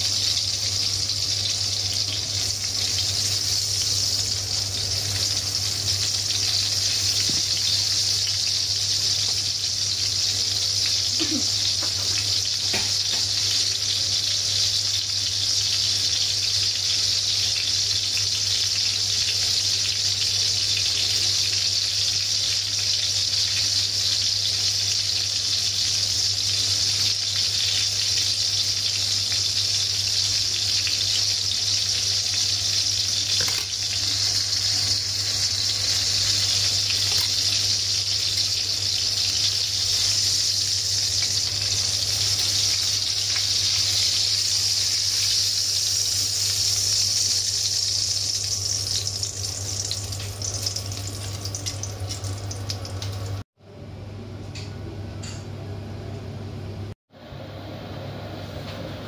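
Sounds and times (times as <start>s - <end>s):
meat sizzling in hot oil: 0.0s - 53.5s.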